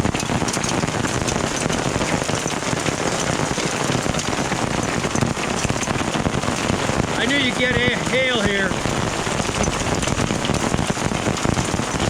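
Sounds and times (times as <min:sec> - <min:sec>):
rain and hail pelting: 0:00.0 - 0:12.0.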